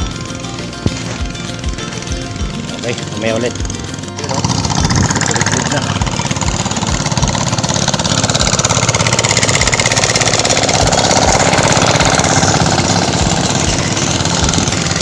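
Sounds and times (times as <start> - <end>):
hand tractor engine running: 0.0 - 15.0.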